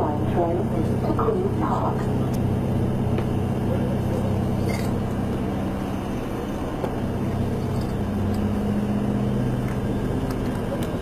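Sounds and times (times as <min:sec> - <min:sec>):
subway train rumble and hum: 0:00.0 - 0:11.0.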